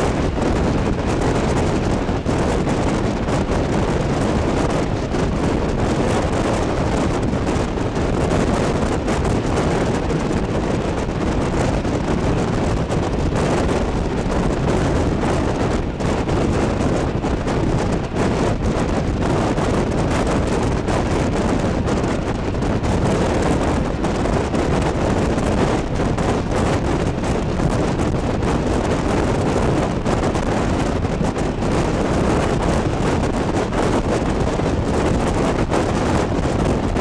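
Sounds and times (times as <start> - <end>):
moving train running noise: 0.0 - 37.0
wind buffeting microphone: 0.0 - 37.0.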